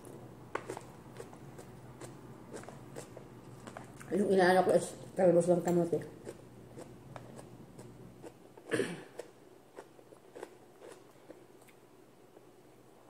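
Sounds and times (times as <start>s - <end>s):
soft chewing: 0.0s - 4.3s, 5.7s - 12.6s.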